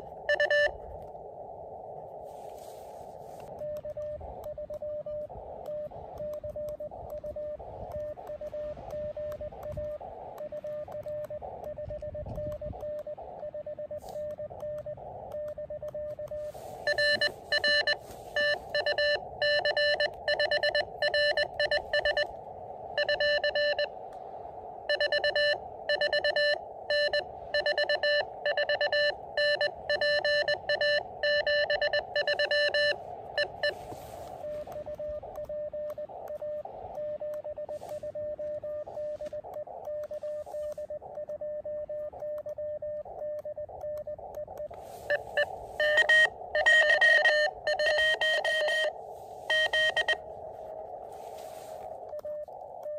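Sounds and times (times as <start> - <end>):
faint morse signal: 0.0 - 52.9
receiver hiss: 0.0 - 52.9
morse code tone keying: 0.2 - 0.8, 3.4 - 24.0, 24.9 - 52.9.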